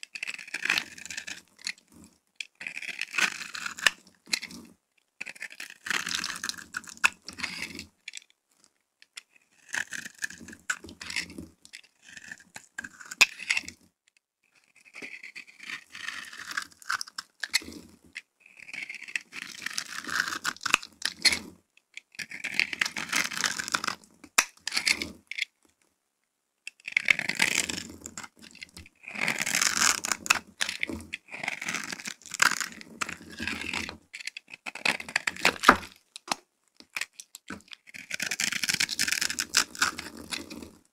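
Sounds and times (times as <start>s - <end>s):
knife crunching and scraping soap: 0.0s - 13.8s, 14.4s - 25.8s, 26.7s - 40.9s.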